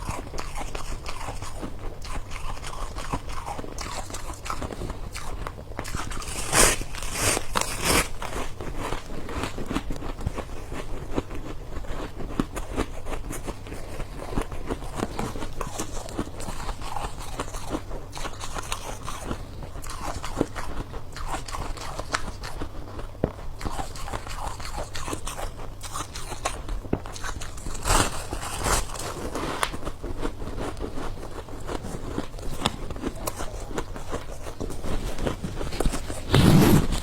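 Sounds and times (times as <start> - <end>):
chewing and crunching ice: 0.0 - 37.0.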